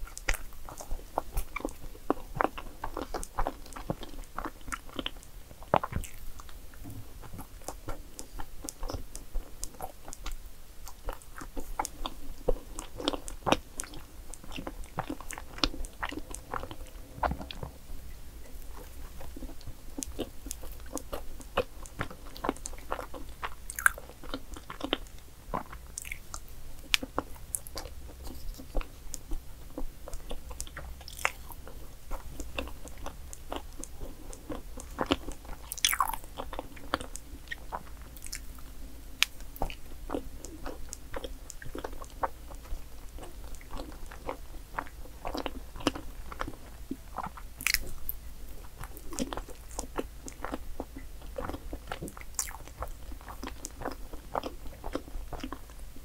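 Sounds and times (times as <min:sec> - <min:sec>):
chewing with mouth smacks: 0:00.0 - 0:17.8, 0:18.4 - 0:55.8.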